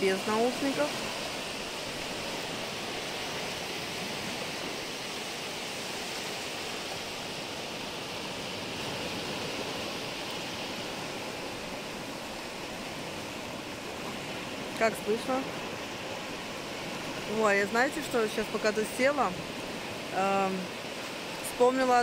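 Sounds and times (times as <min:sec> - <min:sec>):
waves: 0:00.0 - 0:22.0.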